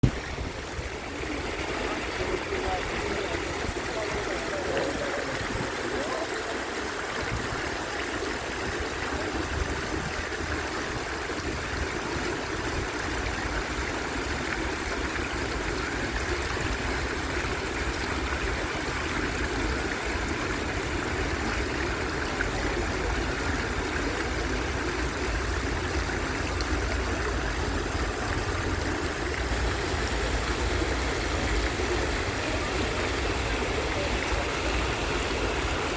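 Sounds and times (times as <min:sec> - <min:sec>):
water fountain splashing: 0:00.0 - 0:35.9.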